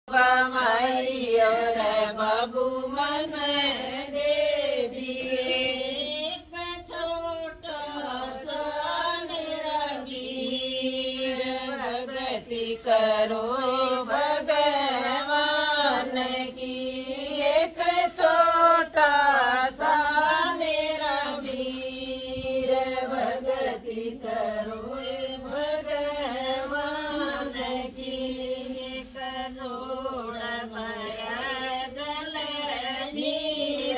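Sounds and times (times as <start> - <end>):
women singing devotional song: 0.0 - 33.9.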